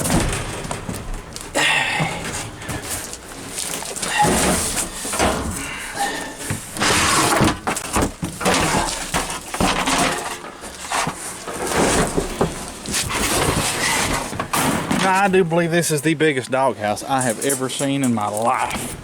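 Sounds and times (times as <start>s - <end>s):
objects clattering and rustling: 0.0s - 15.7s, 17.0s - 19.0s.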